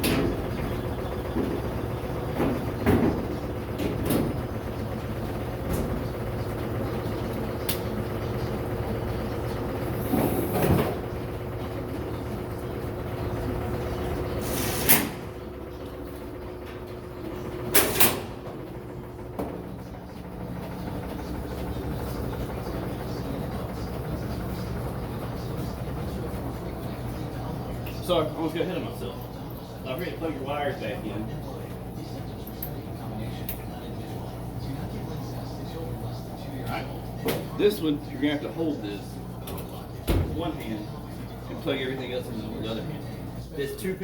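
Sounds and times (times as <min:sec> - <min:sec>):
steady machine hum: 0:00.0 - 0:44.0.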